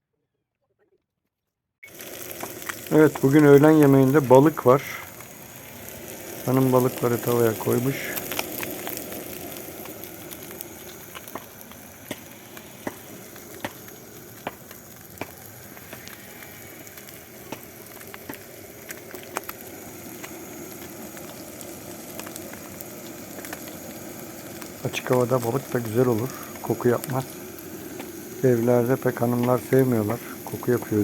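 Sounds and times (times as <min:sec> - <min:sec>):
fish frying in hot oil: 0:01.8 - 0:31.0
oil popping: 0:01.8 - 0:31.0.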